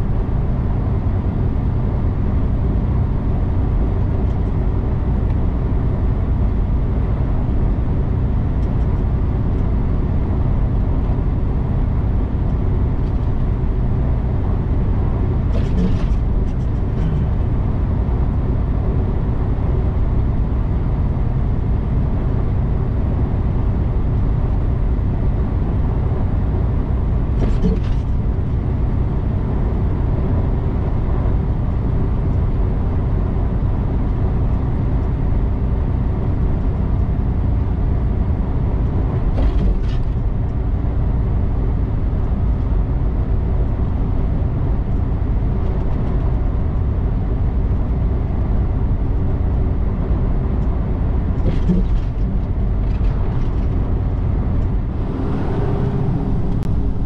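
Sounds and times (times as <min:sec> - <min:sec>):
truck engine and tyres droning: 0:00.0 - 0:57.0.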